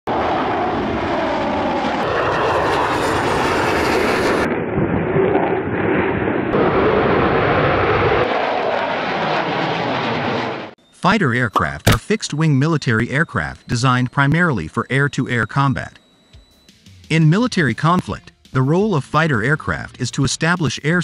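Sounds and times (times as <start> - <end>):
jet engines roaring: 0.1 - 18.2.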